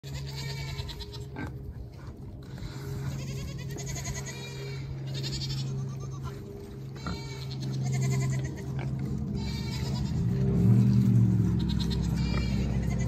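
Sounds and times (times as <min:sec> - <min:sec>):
steady low hum: 0:00.0 - 0:13.0
pigs squealing and grunting: 0:00.1 - 0:13.0.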